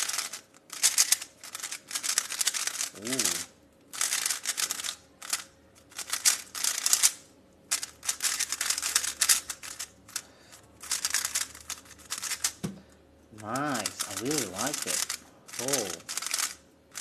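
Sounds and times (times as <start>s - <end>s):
puzzle cube turns clicking: 0.0s - 12.6s, 13.4s - 17.0s.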